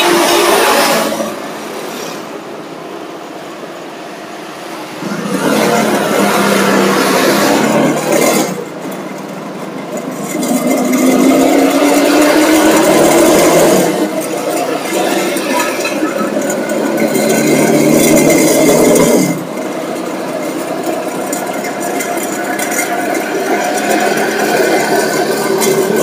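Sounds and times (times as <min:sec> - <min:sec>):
city traffic noise: 0:00.0 - 0:26.0
engine rising in pitch: 0:00.0 - 0:26.0.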